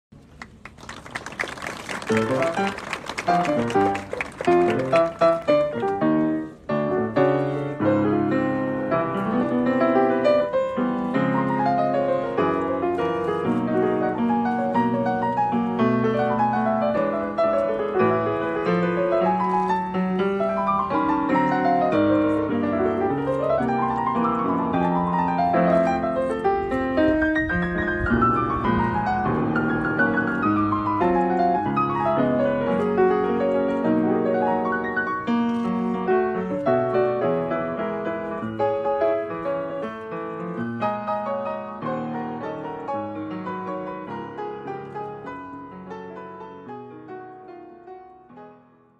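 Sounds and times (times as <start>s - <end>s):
solo grand piano: 0.1s - 48.9s.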